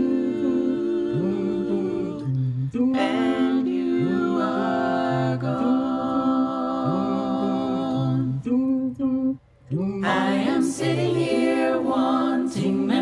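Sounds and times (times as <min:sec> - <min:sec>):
a cappella voices singing chords: 0:00.0 - 0:13.0.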